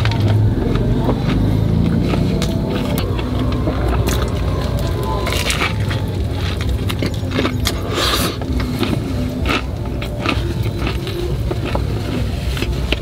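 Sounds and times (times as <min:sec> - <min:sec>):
chewing crispy food: 0:00.0 - 0:13.0
steady low hum: 0:00.0 - 0:13.0.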